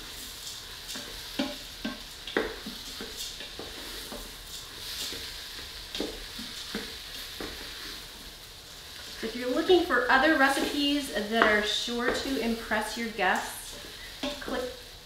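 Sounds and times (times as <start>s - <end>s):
rice sizzling in a pot: 0.0s - 15.0s.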